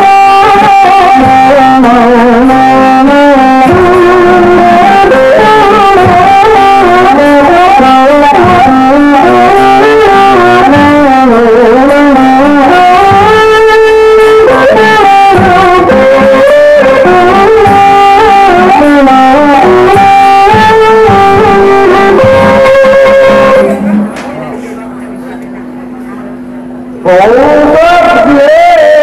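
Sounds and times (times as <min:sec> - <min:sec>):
sliding held melody: 0:00.0 - 0:24.2
plucked strings: 0:00.0 - 0:24.4.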